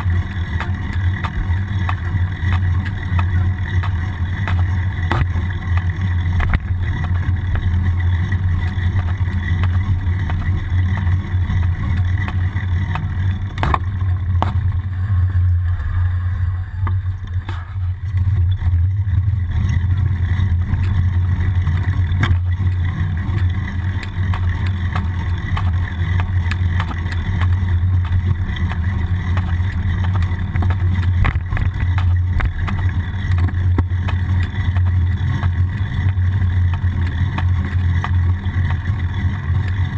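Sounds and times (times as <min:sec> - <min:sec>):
small clicks and knocks: 0:00.0 - 0:14.8, 0:20.4 - 0:39.9
bicycle rolling on a street: 0:00.0 - 0:39.9
wind: 0:00.0 - 0:39.9.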